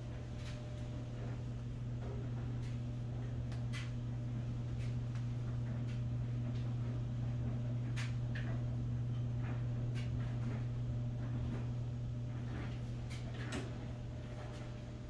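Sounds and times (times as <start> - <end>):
gas burner hum: 0.0 - 15.0.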